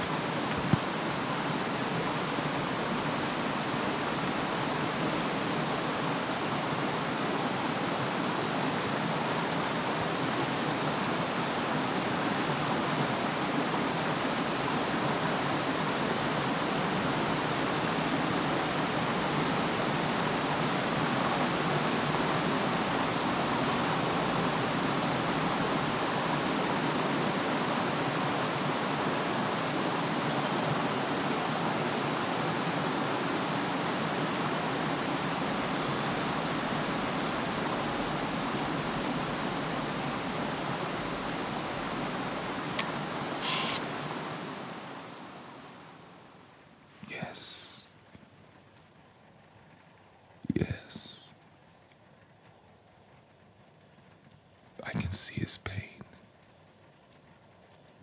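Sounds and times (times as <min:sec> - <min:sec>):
stream water rushing: 0:00.0 - 0:46.4.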